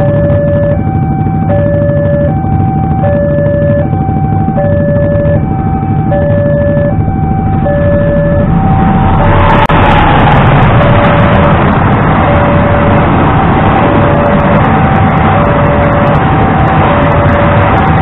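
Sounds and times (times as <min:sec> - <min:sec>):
two-tone crossing warning alarm: 0:00.0 - 0:18.0.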